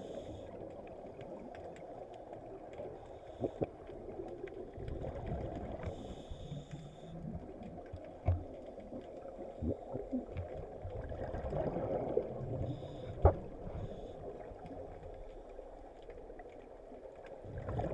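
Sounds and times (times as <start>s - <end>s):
muffled underwater wash: 0.0s - 17.9s.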